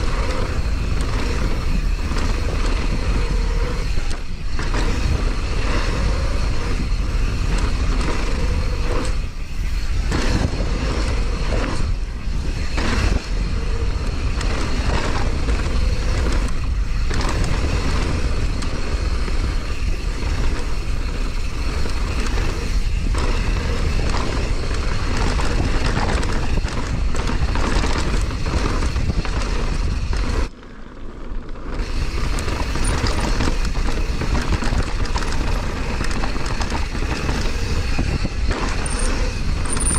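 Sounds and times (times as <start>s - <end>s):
bike knocks and rattles: 0.0s - 39.9s
mountain bike riding noise: 0.0s - 39.9s.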